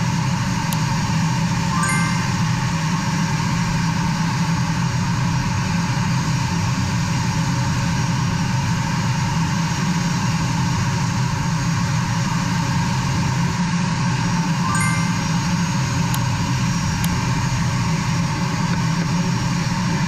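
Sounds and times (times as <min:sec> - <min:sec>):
jet engine whine: 0:00.0 - 0:20.0
jet engines low rumble: 0:00.0 - 0:20.0.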